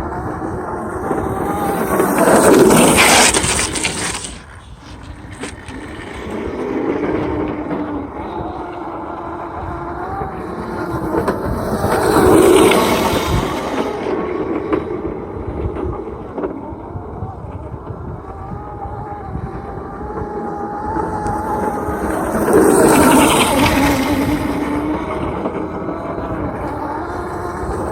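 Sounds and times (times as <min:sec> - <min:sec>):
electric motor whine: 0:00.0 - 0:16.0, 0:16.7 - 0:27.9
small wheels rumbling on ground: 0:00.0 - 0:27.9.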